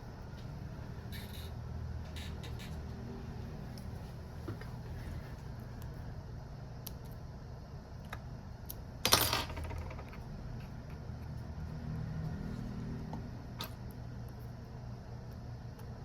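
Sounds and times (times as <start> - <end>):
steady low hum: 0.0 - 9.1, 10.0 - 16.0.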